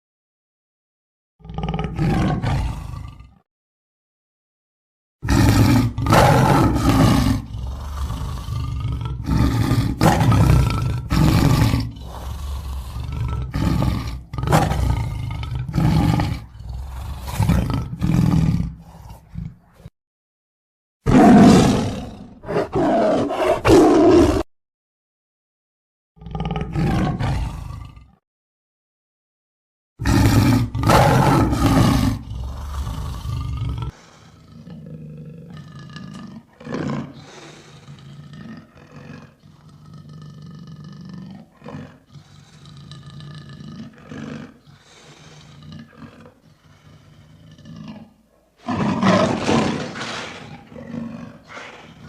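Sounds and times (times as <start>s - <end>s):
lion roaring and grunting: 1.4s - 3.4s, 5.2s - 19.9s, 21.1s - 24.5s, 26.2s - 28.2s, 30.0s - 52.0s.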